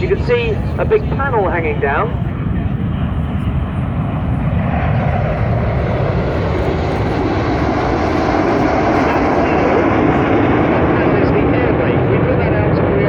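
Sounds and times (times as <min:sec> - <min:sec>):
jet aircraft roar overhead: 0:00.0 - 0:13.0.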